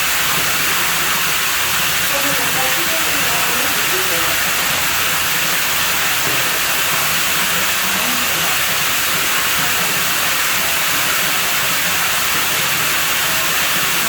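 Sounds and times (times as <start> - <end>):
rushing running water: 0.0 - 14.0.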